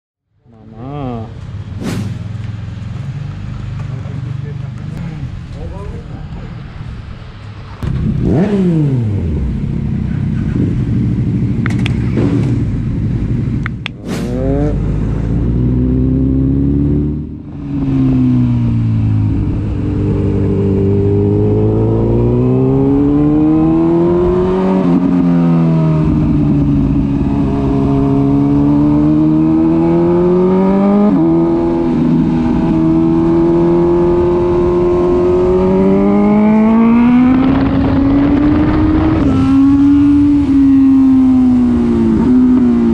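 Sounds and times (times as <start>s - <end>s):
motorcycle engine revving: 7.8s - 42.9s.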